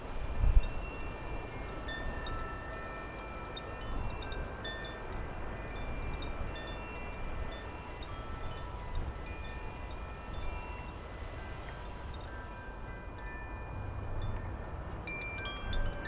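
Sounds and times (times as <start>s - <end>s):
wind rumble on microphone: 0.0s - 16.0s
wind chimes ringing: 0.2s - 16.0s.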